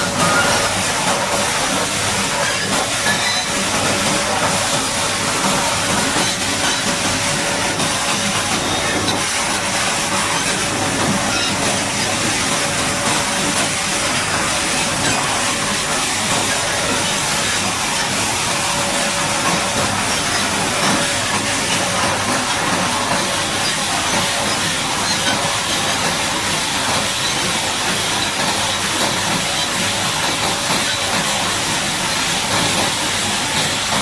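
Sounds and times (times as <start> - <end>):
water jet spraying: 0.0 - 34.0.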